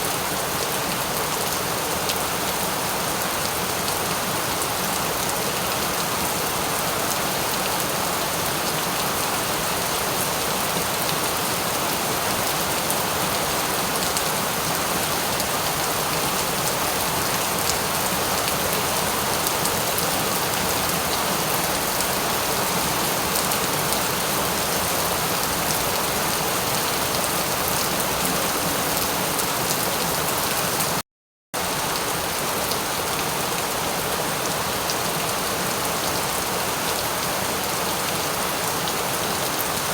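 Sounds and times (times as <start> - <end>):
steady rain falling: 0.0 - 31.0, 31.6 - 39.9.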